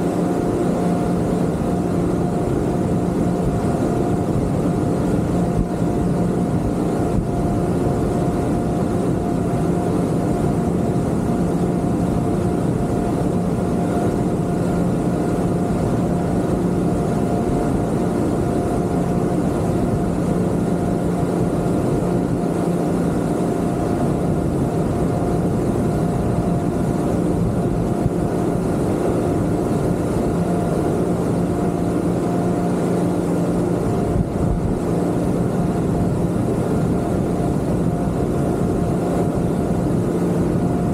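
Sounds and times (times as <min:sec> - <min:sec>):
outboard motors humming: 0:00.0 - 0:40.9.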